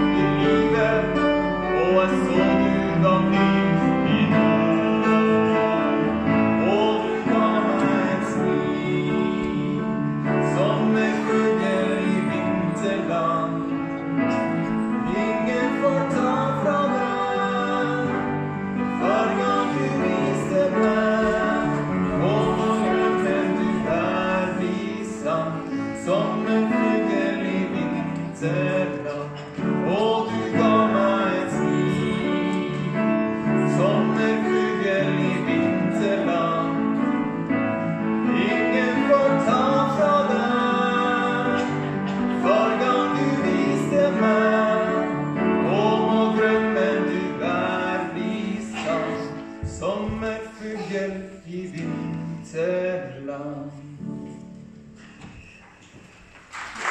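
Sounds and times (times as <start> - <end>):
man singing a slow ballad: 0.0 - 54.4
piano accompaniment: 0.0 - 56.9.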